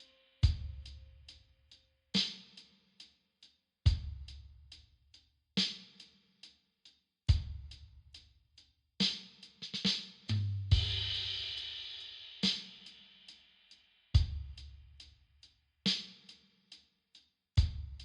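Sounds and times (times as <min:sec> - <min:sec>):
hi-hat ticks: 0:00.0 - 0:10.4, 0:11.2 - 0:18.0.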